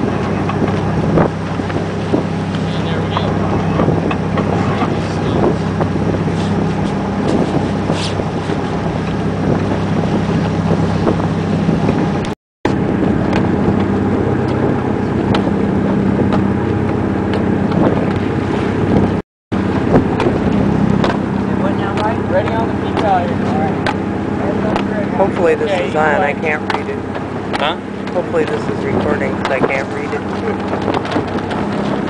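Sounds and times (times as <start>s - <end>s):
boat engine running: 0.0s - 32.0s
wind on microphone: 0.0s - 32.0s.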